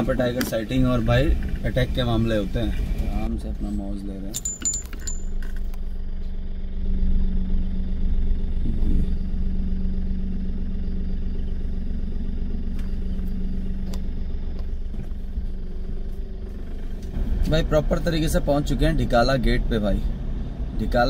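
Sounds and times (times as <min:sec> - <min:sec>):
jeep engine humming: 0:00.0 - 0:21.0
road rumble: 0:00.0 - 0:21.0.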